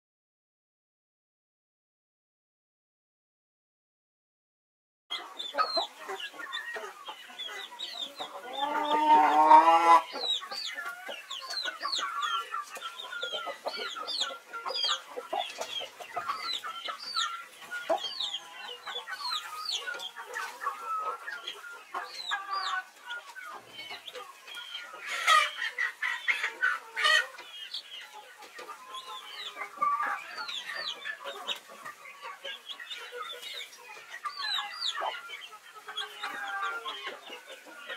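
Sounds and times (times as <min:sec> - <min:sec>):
chicks peeping: 0:05.1 - 0:37.9
hen clucking: 0:05.1 - 0:37.9.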